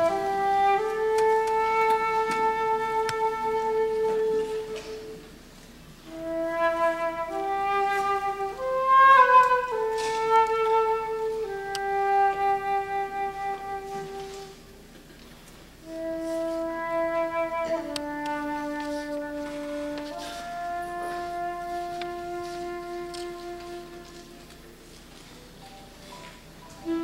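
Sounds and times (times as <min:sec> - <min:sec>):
flute playing slow melody: 0:00.0 - 0:05.4, 0:06.0 - 0:14.9, 0:15.8 - 0:25.1, 0:26.1 - 0:27.0.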